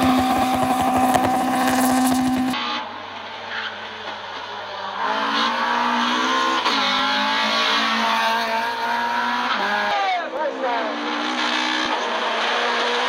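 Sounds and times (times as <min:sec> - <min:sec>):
rally car engine revving hard: 0:00.0 - 0:02.8, 0:04.8 - 0:13.0.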